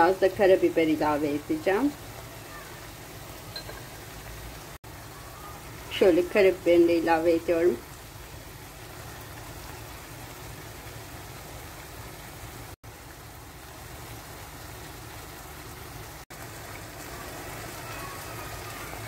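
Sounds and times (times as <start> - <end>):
food simmering in a frying pan: 0.0 - 19.0.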